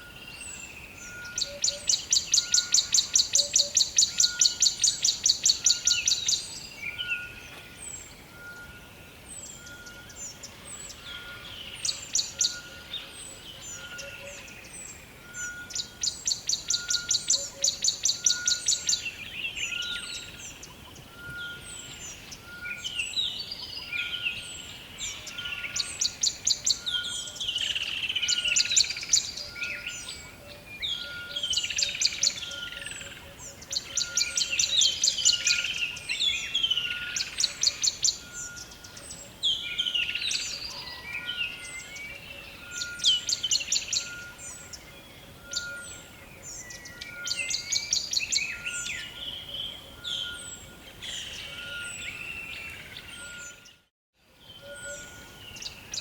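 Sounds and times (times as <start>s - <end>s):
many birds calling: 0.0s - 56.0s.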